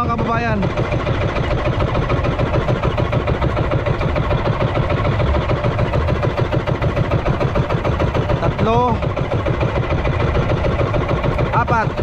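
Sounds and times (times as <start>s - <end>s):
boat engine puttering: 0.0s - 12.0s.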